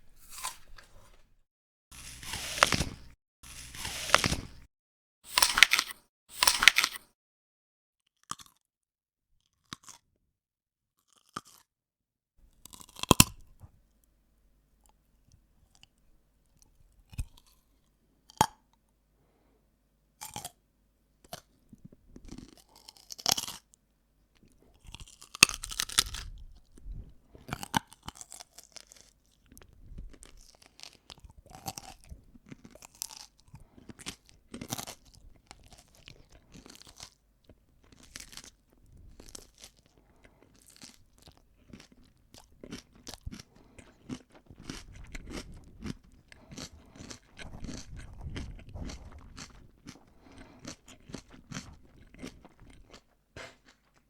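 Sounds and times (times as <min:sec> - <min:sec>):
crisp food being chewed: 0:02.0 - 0:04.7, 0:05.3 - 0:07.0, 0:08.2 - 0:08.7, 0:09.4 - 0:10.1, 0:11.0 - 0:11.7, 0:12.5 - 0:13.8, 0:14.9 - 0:18.6, 0:20.2 - 0:20.6, 0:21.2 - 0:54.0.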